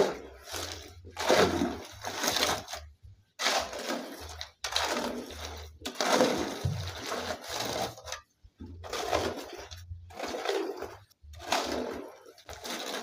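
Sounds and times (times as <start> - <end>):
shovel scraping through gravel: 0.0 - 2.7, 3.4 - 8.2, 8.8 - 13.0.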